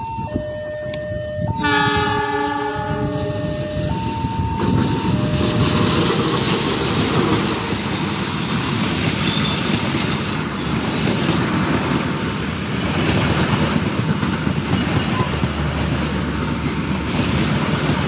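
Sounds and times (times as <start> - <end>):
diesel locomotive passing: 0.2 - 18.0
train wheels rumbling on rail: 0.2 - 18.0.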